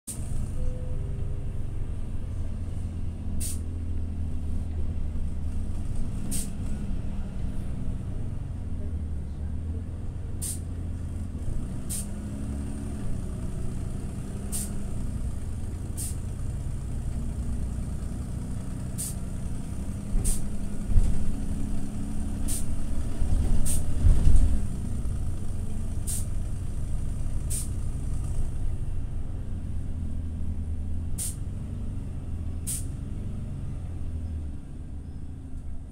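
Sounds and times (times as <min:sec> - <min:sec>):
bus engine rumbling: 0:00.0 - 0:35.9.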